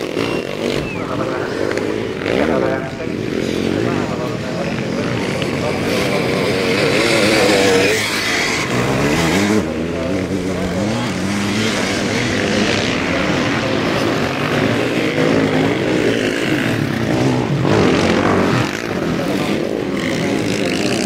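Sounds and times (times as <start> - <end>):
motocross engines racing: 0.0 - 21.0.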